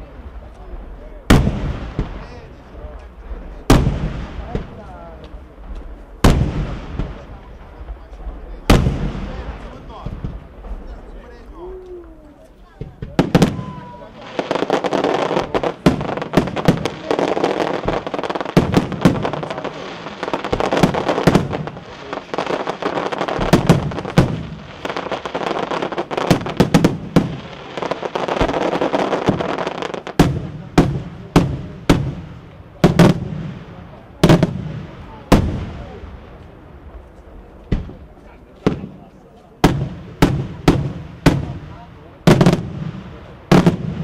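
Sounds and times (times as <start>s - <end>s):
firework crackling: 0.0s - 44.0s.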